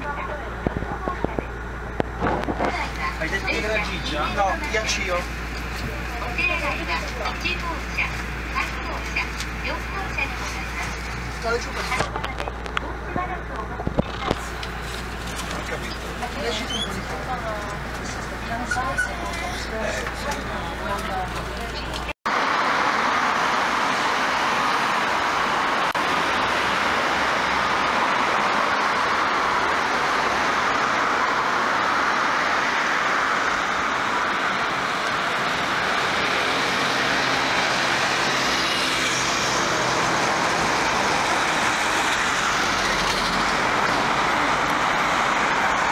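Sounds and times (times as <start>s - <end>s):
road traffic noise: 0.0s - 45.9s.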